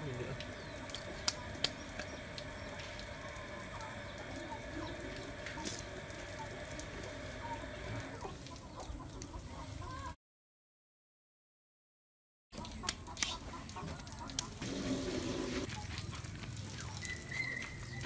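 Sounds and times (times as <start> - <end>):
chickens clucking: 0.0 - 10.2, 12.6 - 18.0
outdoor background: 0.0 - 10.2, 12.5 - 18.0.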